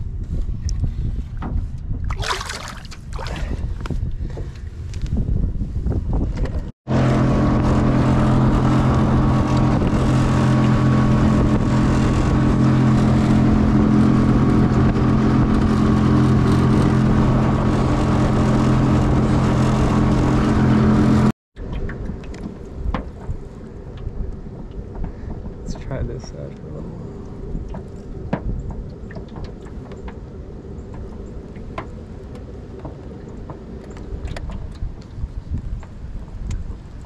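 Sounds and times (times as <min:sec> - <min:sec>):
water sounds: 0:02.0 - 0:03.9, 0:06.9 - 0:37.0
boat motor humming: 0:06.6 - 0:37.0.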